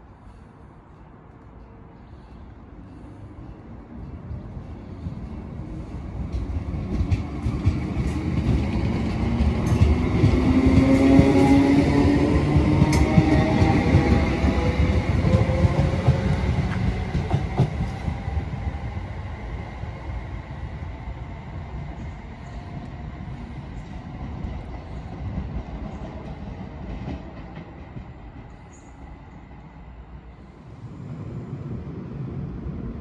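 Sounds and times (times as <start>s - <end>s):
train wheel rumble: 2.9s - 33.0s.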